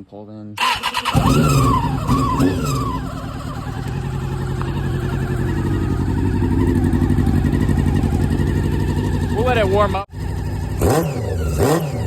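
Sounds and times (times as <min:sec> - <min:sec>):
motorcycle engine idling: 0:00.6 - 0:12.0.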